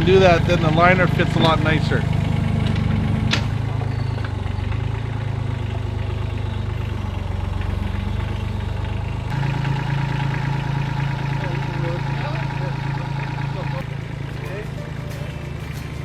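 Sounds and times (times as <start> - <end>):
construction machine engine running: 0.0 - 16.0.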